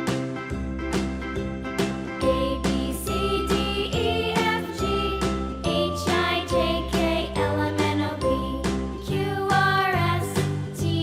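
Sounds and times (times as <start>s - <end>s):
tinkling children's tune: 1.9s - 11.0s.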